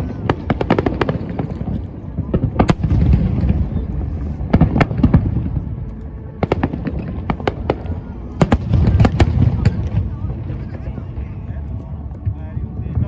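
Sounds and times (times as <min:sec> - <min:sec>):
continuous low rumble: 0:00.0 - 0:13.0.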